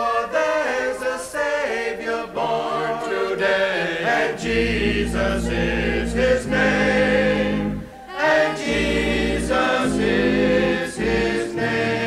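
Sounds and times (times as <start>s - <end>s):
chorus singing a carol: 0.0s - 12.0s.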